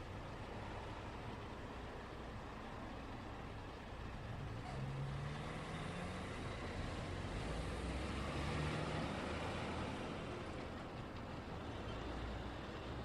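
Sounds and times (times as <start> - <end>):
car and truck engines humming: 0.0 - 13.0.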